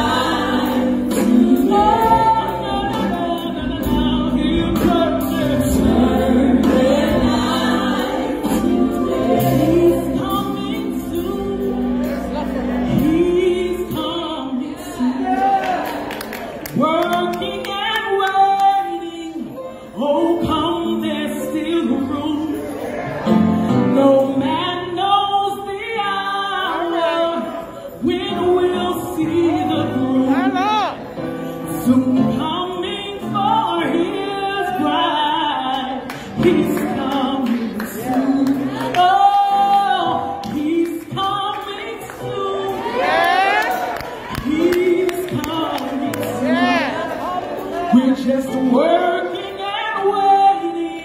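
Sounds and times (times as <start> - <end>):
woman singing gospel song: 0.0 - 22.9, 23.6 - 51.0.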